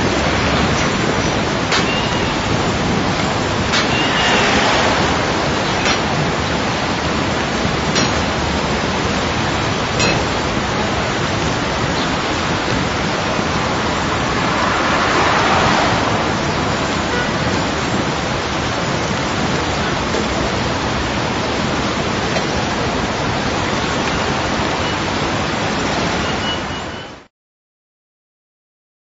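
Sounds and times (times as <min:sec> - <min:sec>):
dense wash of garden sounds: 0:00.0 - 0:27.1.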